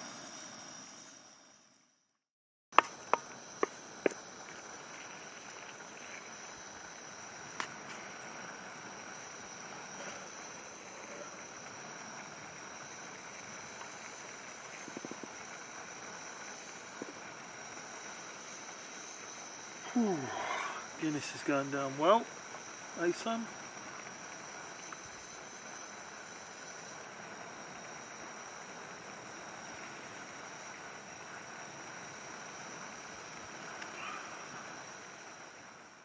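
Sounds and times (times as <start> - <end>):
meat frying in a pan: 2.8 - 19.8, 20.9 - 33.8
camping stove hissing: 2.8 - 36.0
insect chorus: 2.8 - 36.0.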